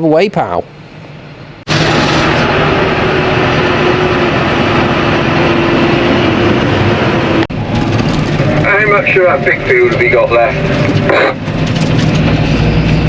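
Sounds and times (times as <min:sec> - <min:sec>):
muck spreader working: 0:01.7 - 0:13.0.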